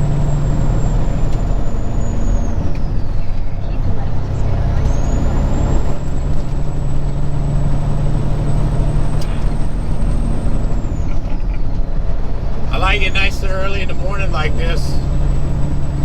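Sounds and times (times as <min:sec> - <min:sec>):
diesel truck engine droning: 0:00.0 - 0:16.0
road noise: 0:00.0 - 0:16.0.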